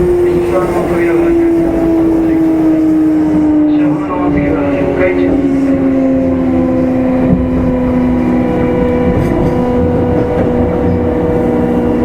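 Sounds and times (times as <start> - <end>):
train motor whine: 0.0 - 12.0
wheels rumbling on rail: 0.0 - 12.0.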